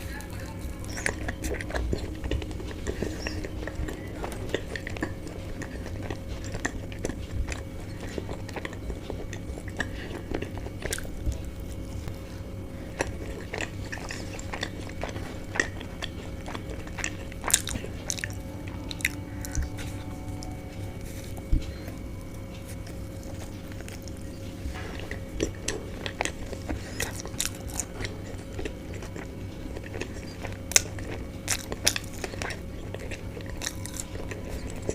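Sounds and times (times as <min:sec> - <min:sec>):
chewing and biting food: 0:00.0 - 0:34.9
steady low hum: 0:00.0 - 0:34.9.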